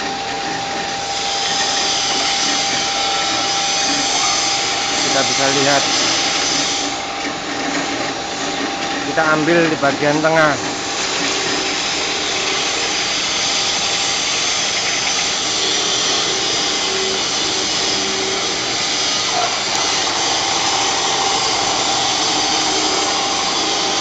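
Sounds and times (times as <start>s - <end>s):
cutting machine running: 0.0s - 24.0s.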